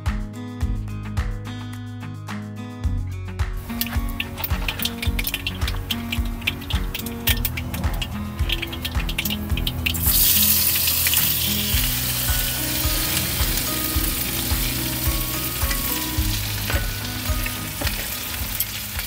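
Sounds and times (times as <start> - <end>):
background music with steady beat: 0.0 - 19.0
okra sizzling in hot oil: 3.6 - 19.0.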